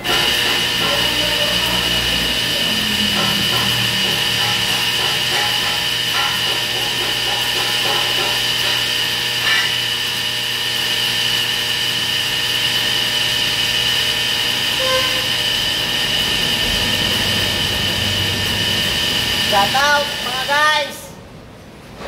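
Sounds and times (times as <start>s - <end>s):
angle grinder on steel: 0.0s - 20.9s.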